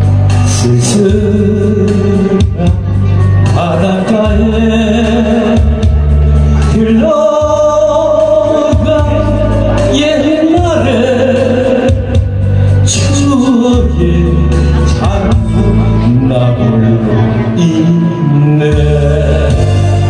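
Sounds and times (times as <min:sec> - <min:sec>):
backing track with heavy bass: 0:00.0 - 0:20.0
man singing into a microphone: 0:00.0 - 0:20.0.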